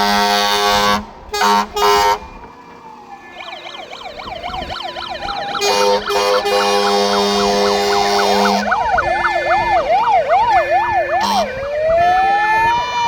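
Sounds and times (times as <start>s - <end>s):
fire engine horns: 0.0s - 13.0s
wailing sirens: 0.0s - 13.0s.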